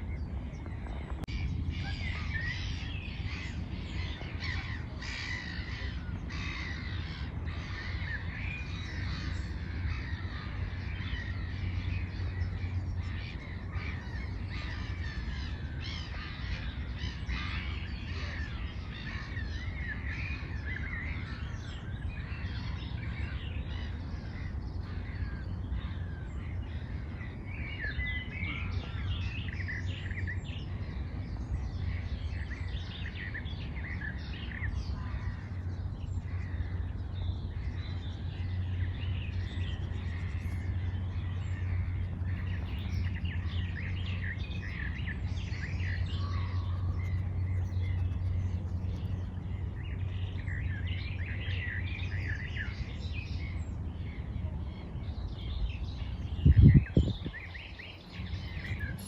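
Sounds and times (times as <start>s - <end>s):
birds chirping: 0.0s - 59.0s
low rumble: 0.0s - 59.0s.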